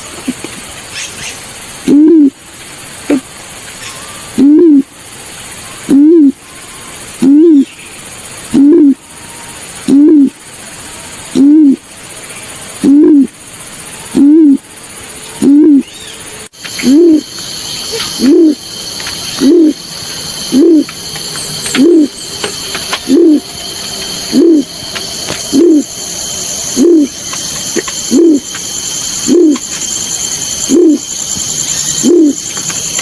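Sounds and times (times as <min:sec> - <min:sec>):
high-pitched hiss: 0:00.0 - 0:33.0
bird hooting: 0:01.0 - 0:02.4, 0:03.0 - 0:05.0, 0:05.6 - 0:11.9, 0:12.7 - 0:13.4, 0:14.0 - 0:14.7, 0:15.4 - 0:33.0.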